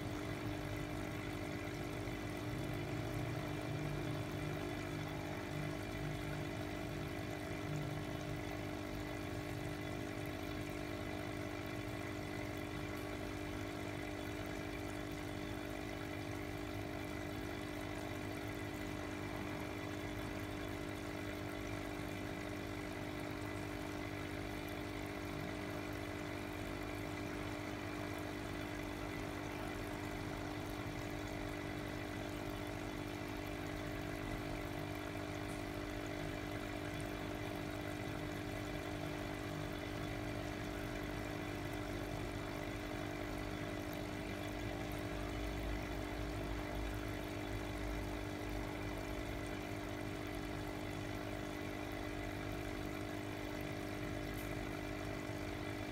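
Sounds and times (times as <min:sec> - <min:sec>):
aquarium pump humming: 0:00.0 - 0:55.9.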